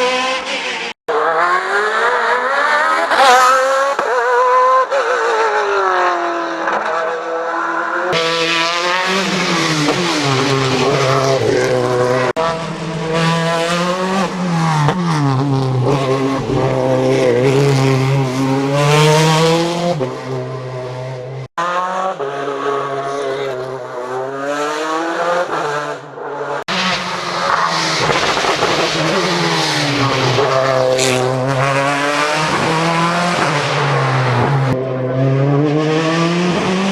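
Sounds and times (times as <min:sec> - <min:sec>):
racing car engines revving: 0:00.0 - 0:36.9.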